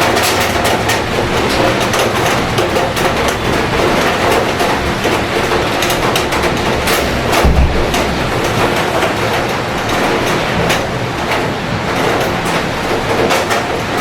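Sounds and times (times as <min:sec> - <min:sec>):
low city rumble: 0:00.0 - 0:14.0
raindrops clicking on surfaces: 0:00.0 - 0:14.0
steady rain falling: 0:00.0 - 0:14.0.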